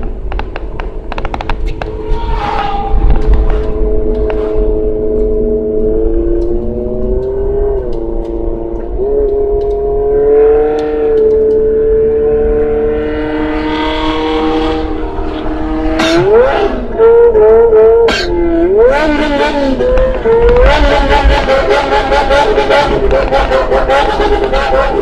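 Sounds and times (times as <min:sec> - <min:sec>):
motorcycle engine revving: 0:01.7 - 0:25.0.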